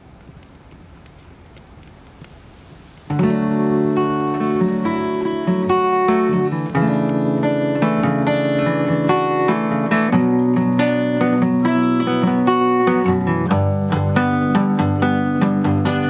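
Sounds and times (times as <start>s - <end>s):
acoustic guitar strumming chords: 3.1s - 16.0s.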